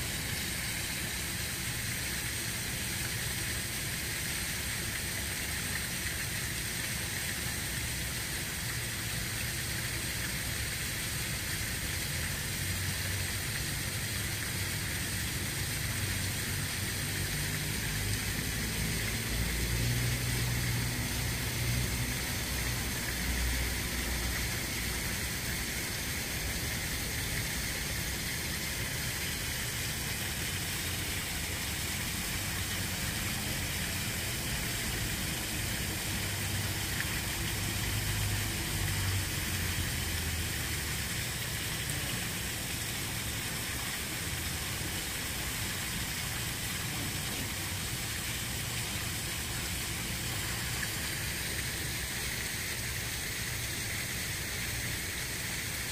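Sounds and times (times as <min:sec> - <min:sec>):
even hiss: 0:00.0 - 0:55.9.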